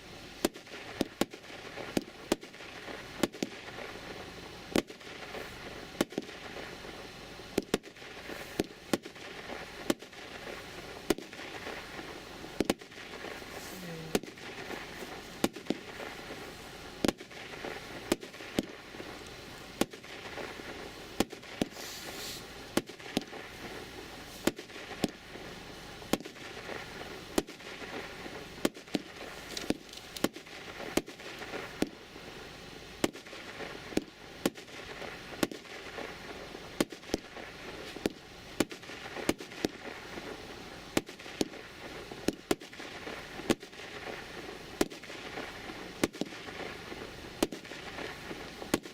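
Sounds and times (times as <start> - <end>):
firework launch noise: 0.0 - 48.9
firework shells bursting: 0.4 - 48.9.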